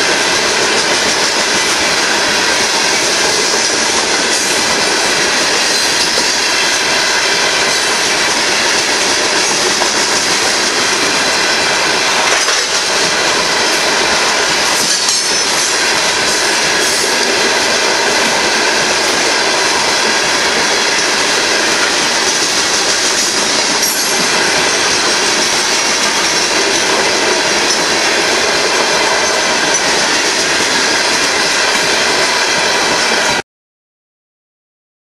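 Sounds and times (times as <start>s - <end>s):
train wheels rushing on rail: 0.0s - 33.4s.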